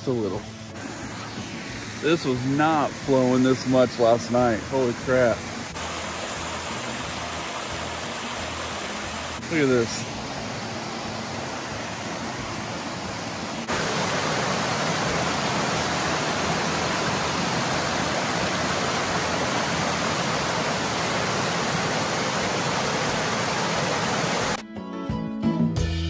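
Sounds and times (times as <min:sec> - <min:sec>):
waterfall rushing over rocks: 0:00.0 - 0:24.6.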